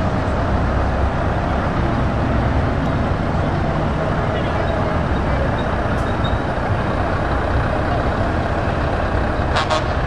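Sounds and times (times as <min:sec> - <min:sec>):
truck diesel engines driving past: 0:00.0 - 0:10.0.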